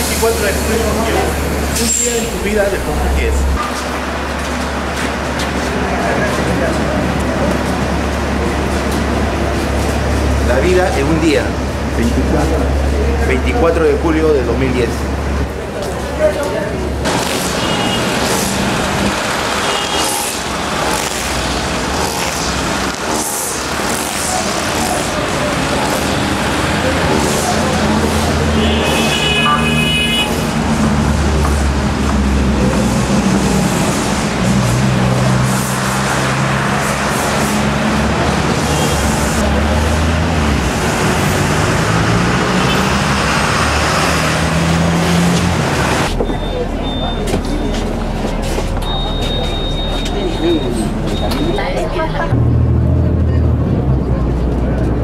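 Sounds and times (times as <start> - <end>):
road noise: 0.0 - 55.0
street traffic passing: 0.0 - 55.0.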